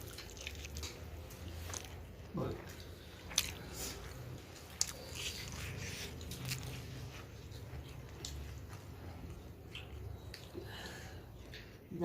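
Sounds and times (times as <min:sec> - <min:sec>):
people chewing food: 0:00.0 - 0:11.9.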